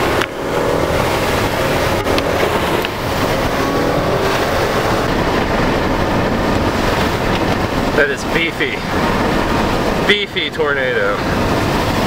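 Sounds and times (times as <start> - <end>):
car engine running: 0.0 - 12.0
wind and rain around car: 0.0 - 12.0.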